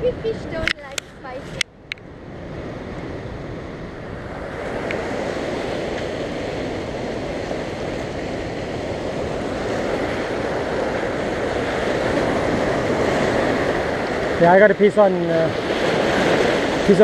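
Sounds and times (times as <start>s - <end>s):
ocean surf breaking over rocks: 0.0s - 17.0s.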